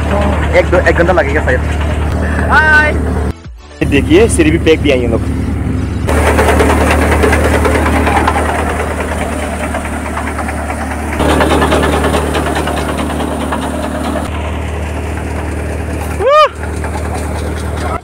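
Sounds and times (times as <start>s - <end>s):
threshing machine rattling: 0.0s - 3.3s, 6.0s - 18.0s
engine humming: 0.0s - 18.0s.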